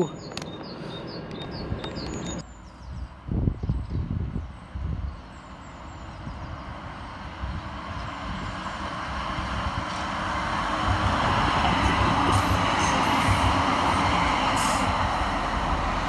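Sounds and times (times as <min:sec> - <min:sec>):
tram passing by: 0:00.0 - 0:16.0.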